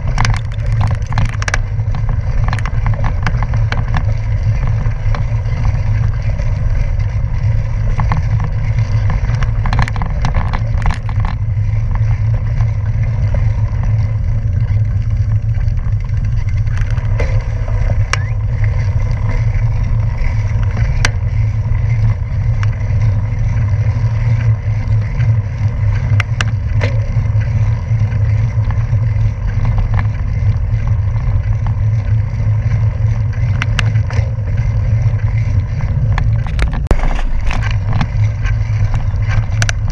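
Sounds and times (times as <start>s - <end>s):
sharp ticks from bike: 0.0s - 39.9s
wind and road noise rumble: 0.0s - 39.9s.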